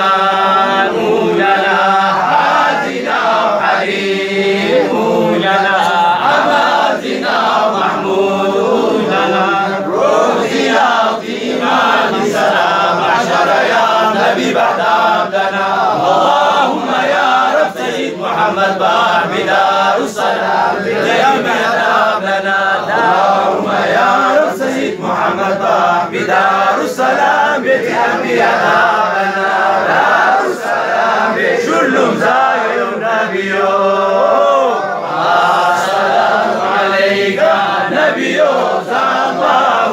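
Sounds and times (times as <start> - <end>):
men chanting together: 0.0 - 39.9.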